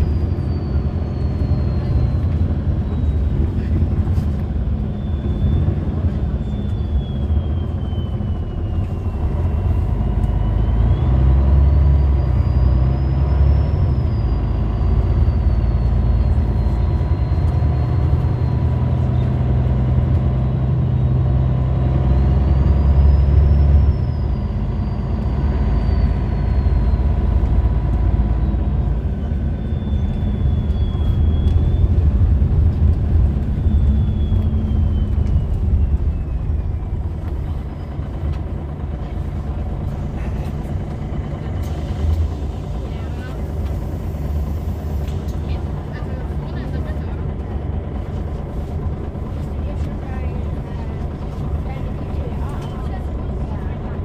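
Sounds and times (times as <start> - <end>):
bus diesel engine from inside: 0.0 - 54.0.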